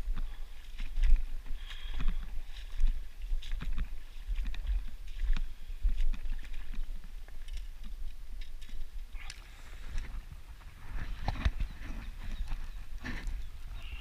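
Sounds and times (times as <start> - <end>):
low wind rumble: 0.0 - 14.0
pebbles crunching underfoot: 0.0 - 14.0.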